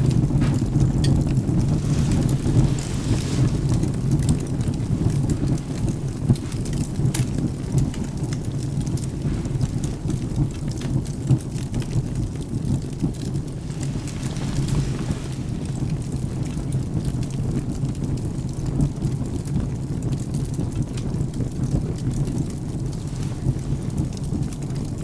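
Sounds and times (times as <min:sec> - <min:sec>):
firewood crackling: 0:00.0 - 0:25.0
rain: 0:00.0 - 0:25.0.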